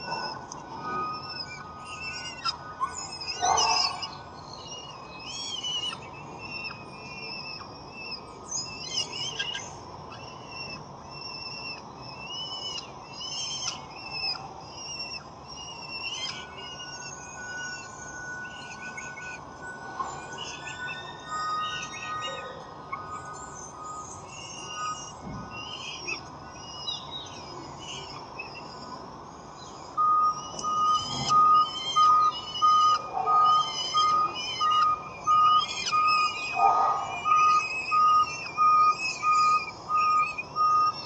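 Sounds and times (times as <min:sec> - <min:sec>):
falcons chirping: 0:00.0 - 0:41.0.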